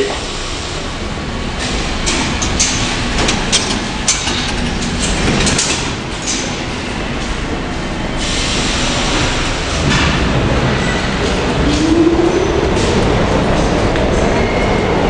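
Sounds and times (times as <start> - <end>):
subway train rail noise: 0.0 - 15.0.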